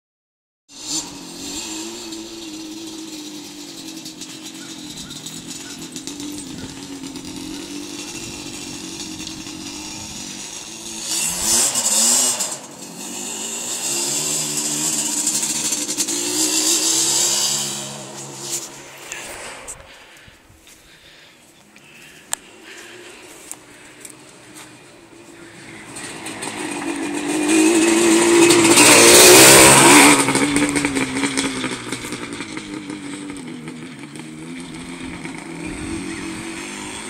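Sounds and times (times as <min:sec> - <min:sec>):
atv engine running: 0:00.7 - 0:37.0.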